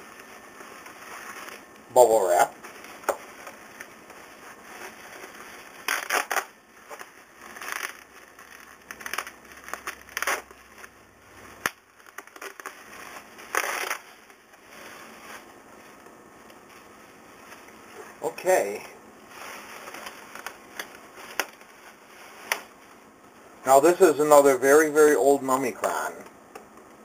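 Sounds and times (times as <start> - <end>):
bubble wrap crinkling: 0.0 - 26.2.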